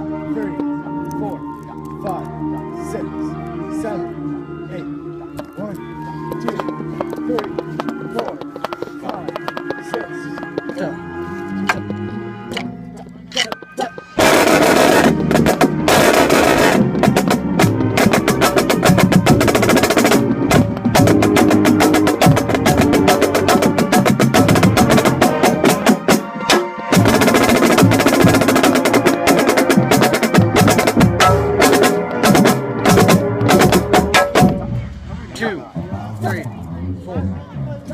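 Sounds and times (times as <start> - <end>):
marching band playing: 2.6 - 36.4.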